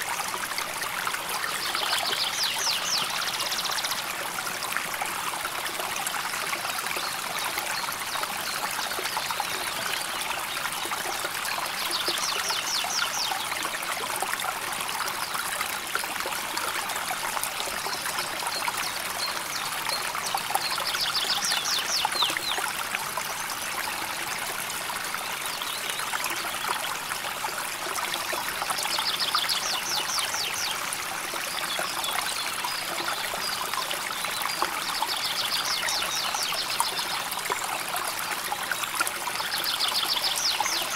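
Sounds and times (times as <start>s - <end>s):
river water babbling: 0.0s - 40.9s.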